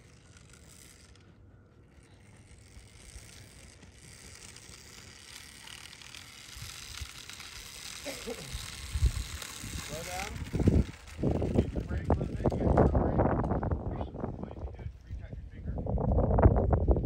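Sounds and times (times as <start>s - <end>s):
electric dirt bike drivetrain whirring: 0.0s - 17.0s.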